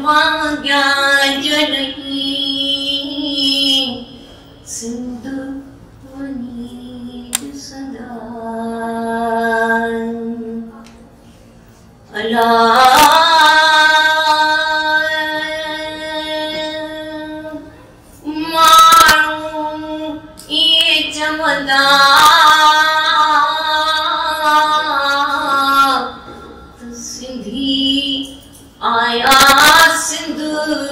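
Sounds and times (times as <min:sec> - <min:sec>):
woman singing unaccompanied: 0:00.0 - 0:10.8, 0:12.1 - 0:30.9.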